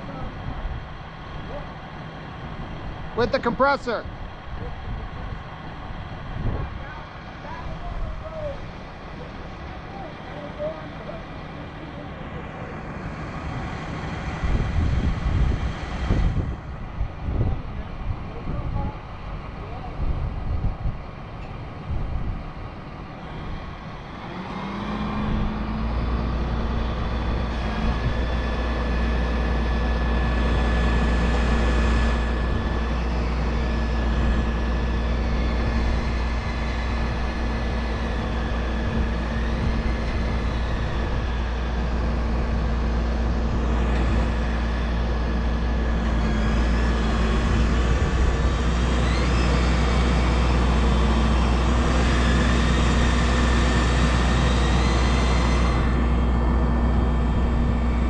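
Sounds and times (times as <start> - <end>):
crane engine revving: 0.0 - 58.0.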